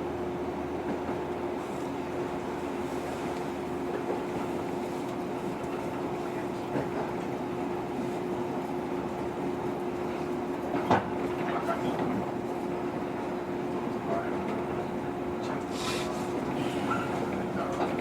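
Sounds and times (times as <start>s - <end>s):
electric train interior hum: 0.0s - 18.0s.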